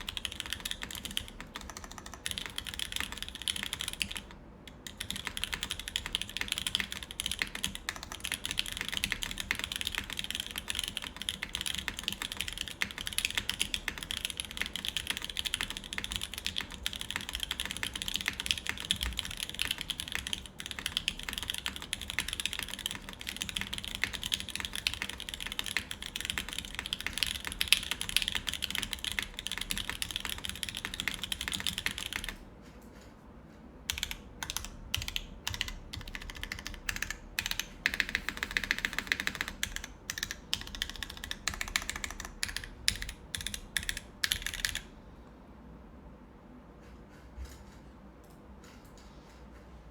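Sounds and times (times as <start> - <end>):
fast typing on mechanical keyboard: 0.0 - 32.4, 33.9 - 44.9.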